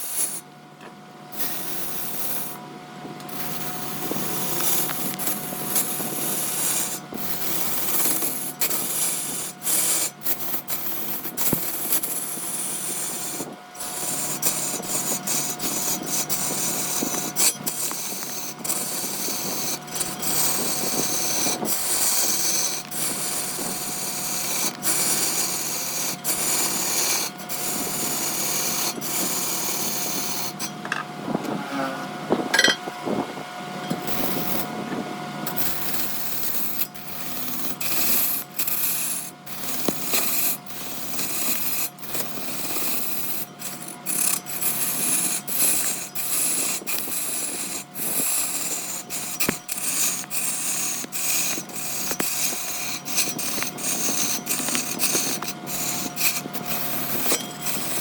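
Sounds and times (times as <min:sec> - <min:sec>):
turning tool rasping on wood: 0:00.0 - 0:00.4, 0:01.4 - 0:02.6, 0:03.3 - 0:30.8, 0:34.0 - 0:34.7, 0:35.5 - 0:58.0
wood lathe running: 0:03.3 - 0:31.0, 0:35.5 - 0:58.0.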